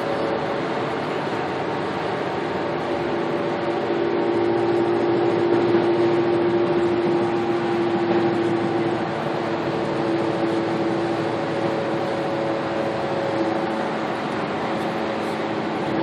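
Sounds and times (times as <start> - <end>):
car cabin road and engine drone: 0.0 - 16.0.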